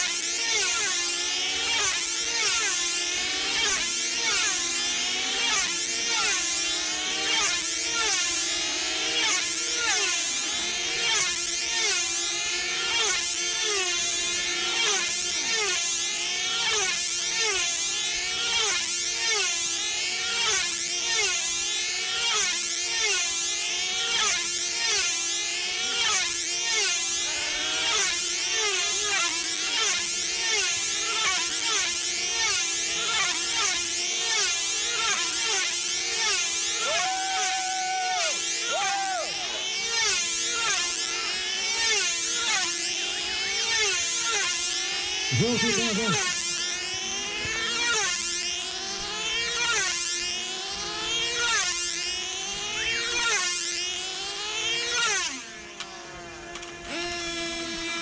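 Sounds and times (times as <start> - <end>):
model aircraft engines whining: 0.1 - 58.0.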